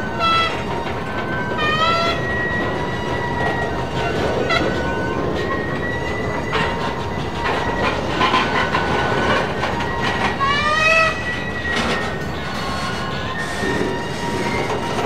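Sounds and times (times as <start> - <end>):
train cars rumbling past: 0.0 - 15.0
wheel squeal: 0.0 - 15.0
wheels clacking over rails: 0.0 - 15.0.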